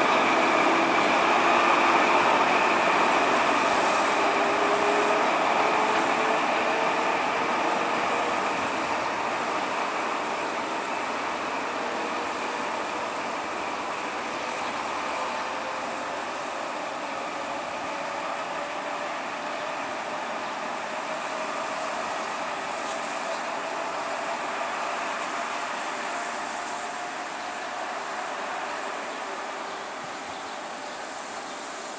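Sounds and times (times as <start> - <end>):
diesel locomotive engine drone: 0.0 - 31.9
locomotive whine rising in pitch: 0.0 - 31.9.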